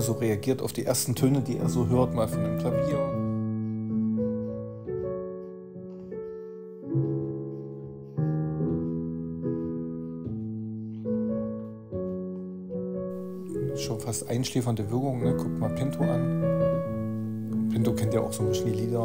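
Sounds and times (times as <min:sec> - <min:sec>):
slow piano melody with chords: 0:00.0 - 0:19.0.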